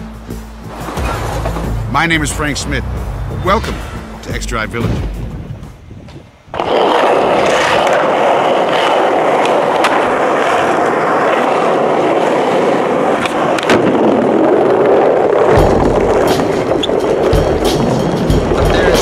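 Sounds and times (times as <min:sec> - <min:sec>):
skateboard wheels rolling: 0:00.0 - 0:01.9, 0:05.1 - 0:19.0.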